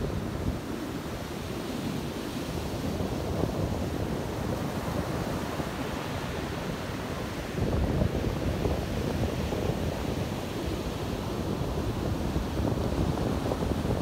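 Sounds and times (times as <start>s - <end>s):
small waves breaking on sand: 0.0s - 14.0s
wind buffeting microphone: 0.0s - 14.0s.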